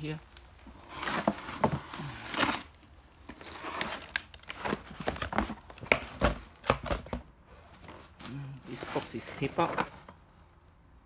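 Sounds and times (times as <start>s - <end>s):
cardboard and packaging rustling: 0.0s - 10.3s.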